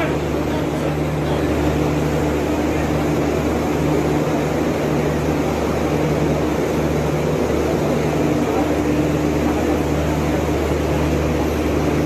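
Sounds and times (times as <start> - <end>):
train engine humming: 0.0 - 12.0.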